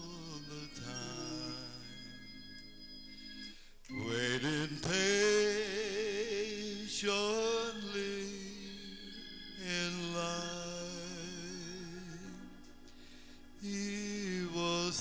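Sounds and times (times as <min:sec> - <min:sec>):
man singing with vibrato: 0:00.0 - 0:02.4, 0:03.9 - 0:12.7, 0:13.5 - 0:15.0
sustained keyboard chords: 0:00.0 - 0:15.0.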